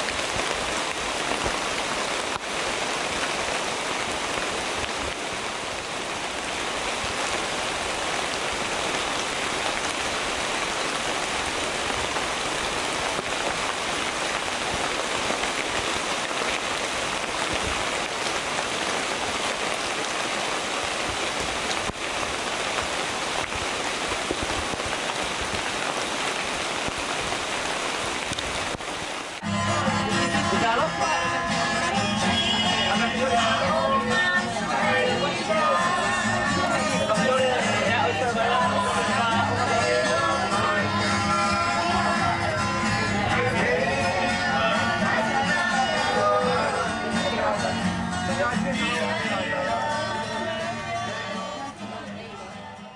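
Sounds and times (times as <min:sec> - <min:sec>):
steady rain hiss: 0:00.0 - 0:52.9.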